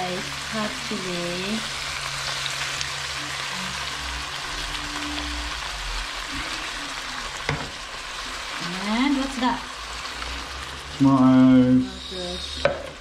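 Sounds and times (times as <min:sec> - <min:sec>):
meat and onions sizzling in a pan: 0:00.0 - 0:13.0.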